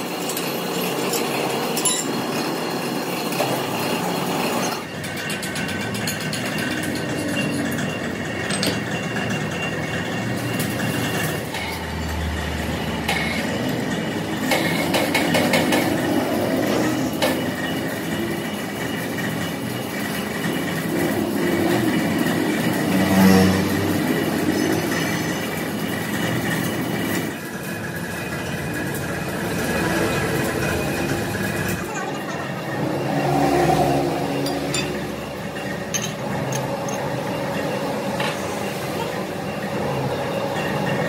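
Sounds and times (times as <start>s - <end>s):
machinery running and rattling: 0.0s - 41.0s.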